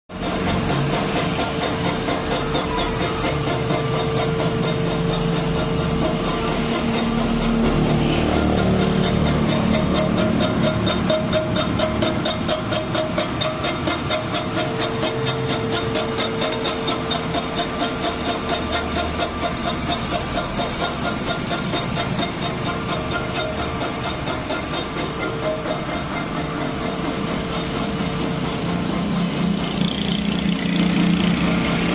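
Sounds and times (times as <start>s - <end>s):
milling machine running: 0.1s - 31.9s.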